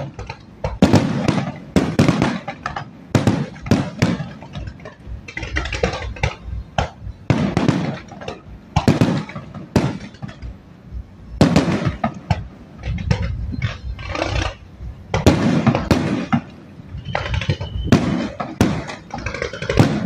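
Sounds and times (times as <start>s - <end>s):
firework shells bursting with bangs: 0.0s - 10.7s, 11.3s - 20.0s.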